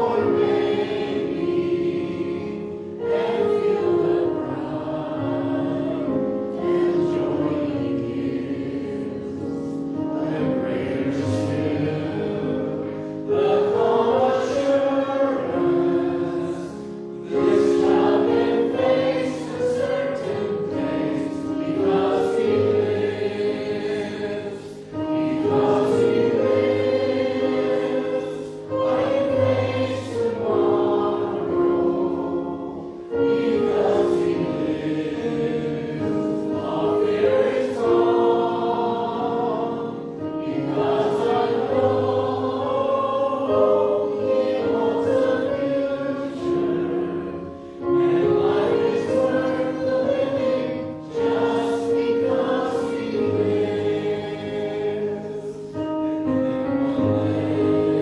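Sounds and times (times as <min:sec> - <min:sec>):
church choir singing a hymn: 0:00.0 - 0:58.0.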